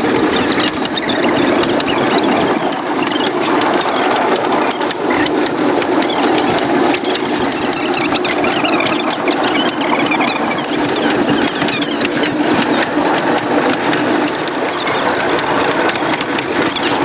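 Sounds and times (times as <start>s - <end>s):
train mechanical rattle: 0.0s - 17.0s
wheels clicking: 0.0s - 17.0s.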